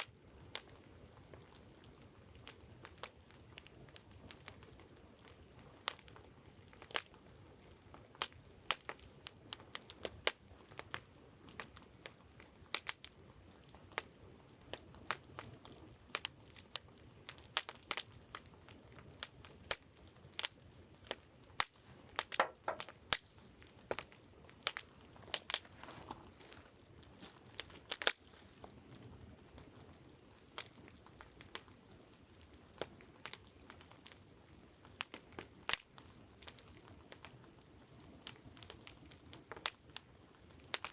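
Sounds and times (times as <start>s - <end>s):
campfire crackling: 0.0s - 40.9s
faint steady hiss: 0.0s - 40.9s.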